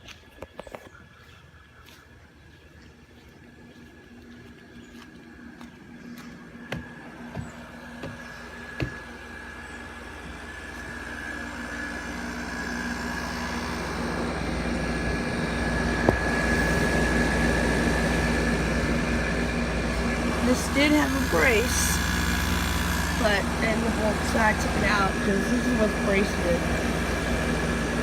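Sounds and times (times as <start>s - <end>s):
window air conditioner humming: 2.4s - 28.0s.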